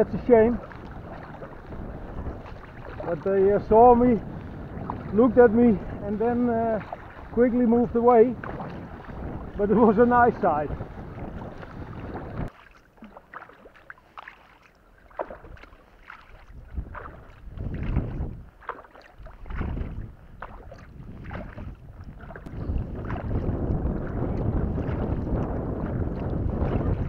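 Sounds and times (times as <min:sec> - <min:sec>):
wind on microphone: 0:00.0 - 0:12.5, 0:15.4 - 0:27.0
paddle strokes in water: 0:00.0 - 0:27.0
water dripping and splashing: 0:00.0 - 0:27.0.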